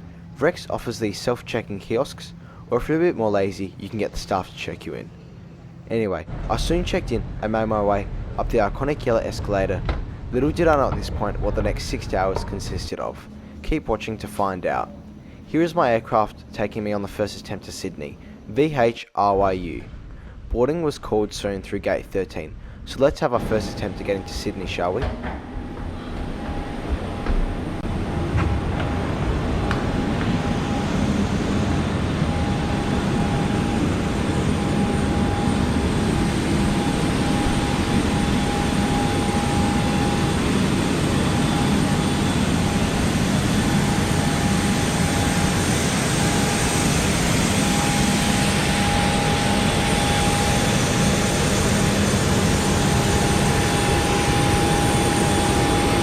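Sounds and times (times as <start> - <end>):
airliner machinery drone with whine: 0.0 - 18.8, 19.6 - 56.0.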